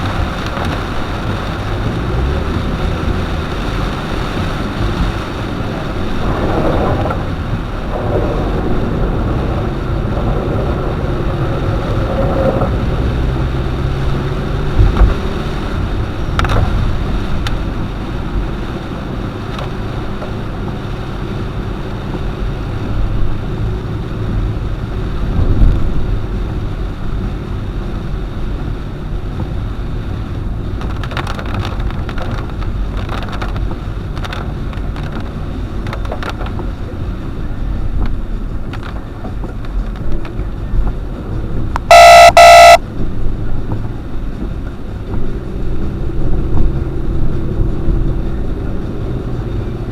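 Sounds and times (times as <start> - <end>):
car driving on wet road: 0.0 - 49.9.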